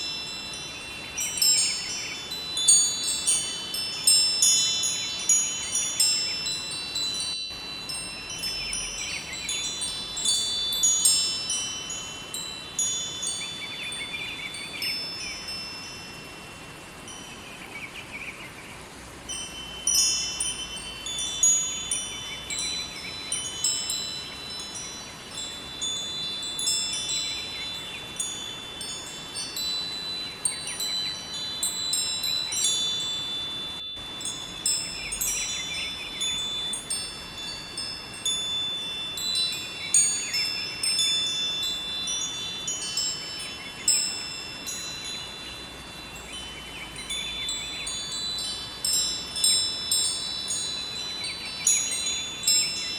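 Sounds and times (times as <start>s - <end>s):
wind chimes ringing: 0.0s - 52.9s.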